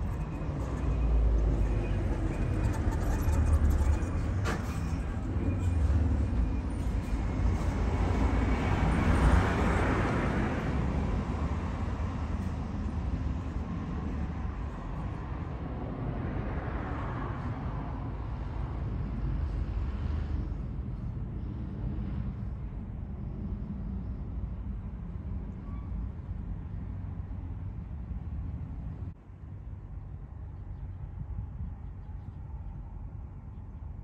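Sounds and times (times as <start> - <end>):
road traffic rumble: 0.0 - 34.0
vehicles passing: 0.0 - 34.0.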